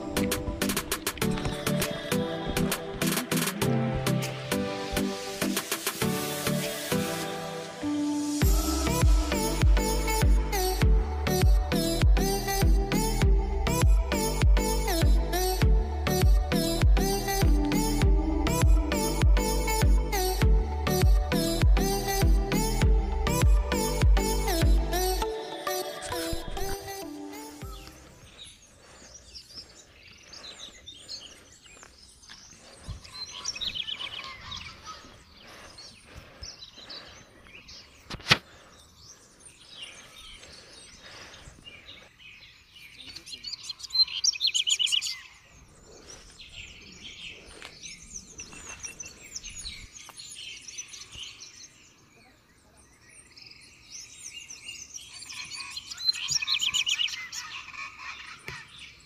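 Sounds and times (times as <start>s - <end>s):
forest birds chirping: 0.0s - 59.0s.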